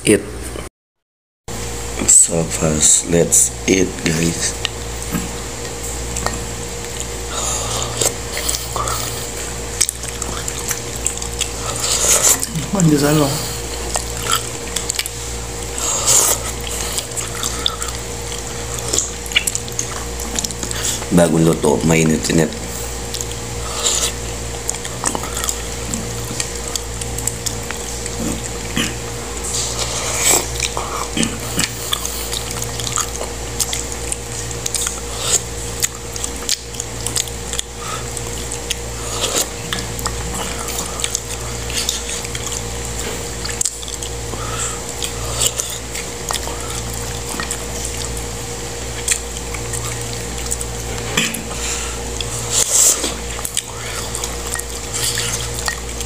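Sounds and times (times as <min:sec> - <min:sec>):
steady low hum: 0:01.5 - 0:56.0
slurping mouth sounds: 0:06.1 - 0:21.1, 0:22.7 - 0:56.0.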